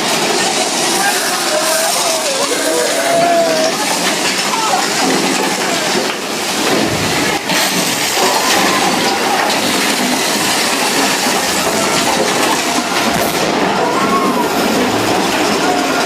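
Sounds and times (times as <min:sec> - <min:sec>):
roller coaster cars rattling: 0:00.0 - 0:16.0.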